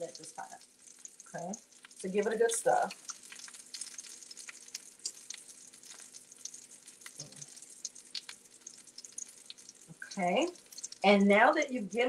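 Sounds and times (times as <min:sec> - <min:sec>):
faint steady hum: 0:00.0 - 0:12.0
food frying in a pan: 0:00.0 - 0:12.0.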